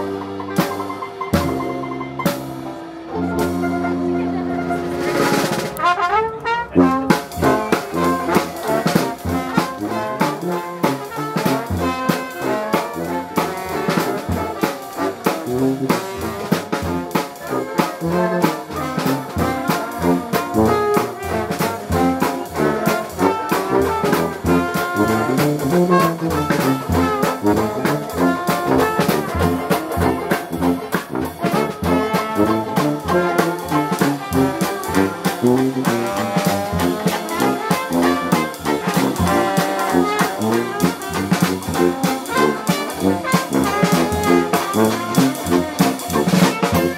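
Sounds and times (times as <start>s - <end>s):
jazz band playing: 0.0s - 46.9s.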